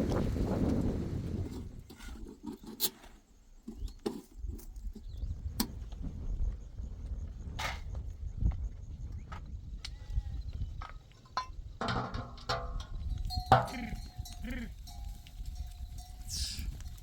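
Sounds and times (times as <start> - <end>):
wind on microphone: 0.0 - 2.4, 3.7 - 17.0.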